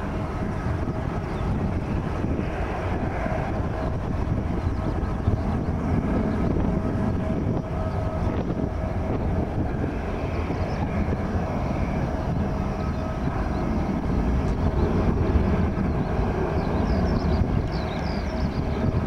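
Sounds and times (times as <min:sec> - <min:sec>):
faint engine whine: 0:00.0 - 0:19.0
jet engines rumbling: 0:00.0 - 0:19.0.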